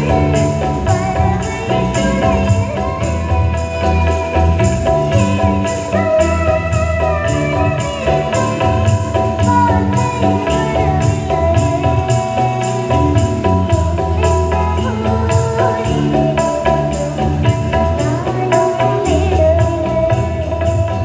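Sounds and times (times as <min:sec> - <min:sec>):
live band music through speakers: 0:00.0 - 0:21.0
steady percussion beat: 0:00.0 - 0:21.0.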